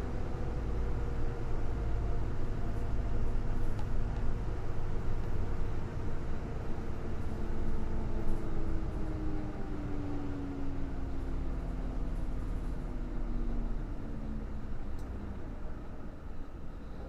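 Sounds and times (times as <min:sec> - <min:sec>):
bus drivetrain rumble: 0:00.0 - 0:17.0.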